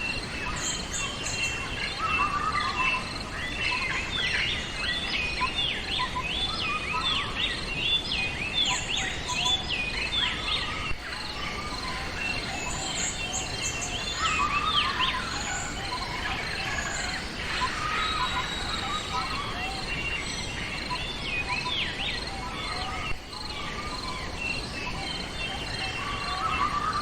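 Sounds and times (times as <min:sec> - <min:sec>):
birds singing: 0:00.0 - 0:27.0
steady background hiss: 0:00.0 - 0:27.0.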